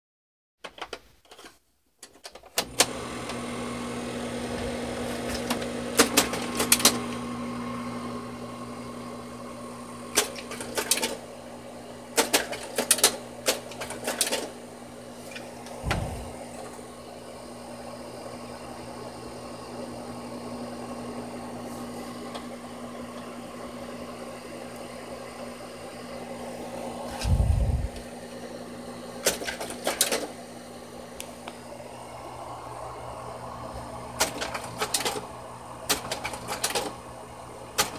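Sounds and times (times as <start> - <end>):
projector cooling fan humming: 2.6 - 37.9.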